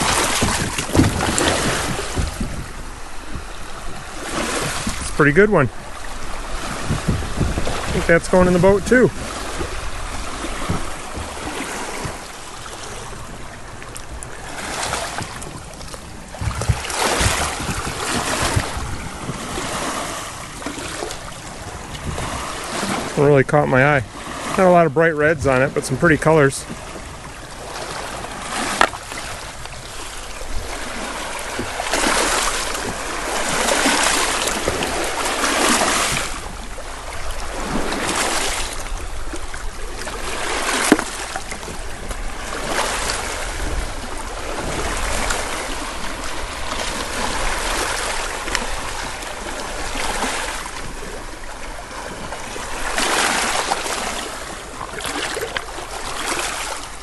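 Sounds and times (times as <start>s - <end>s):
lake waves lapping on pebbles: 0.0s - 57.0s.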